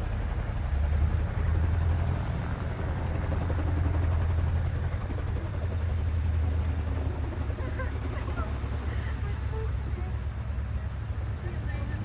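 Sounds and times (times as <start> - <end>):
helicopter rotors droning: 0.0 - 12.0.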